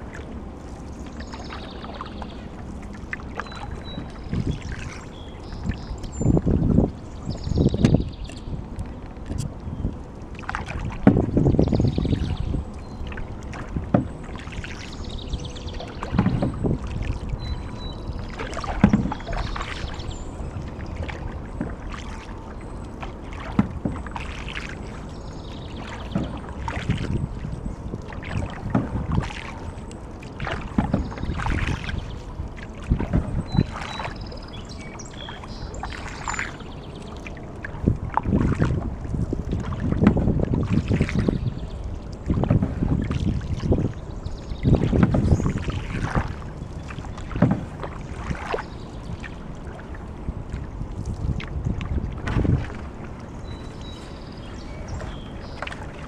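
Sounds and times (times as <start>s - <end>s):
low wind rumble: 0.0s - 56.0s
paddle splashing water: 0.0s - 56.0s.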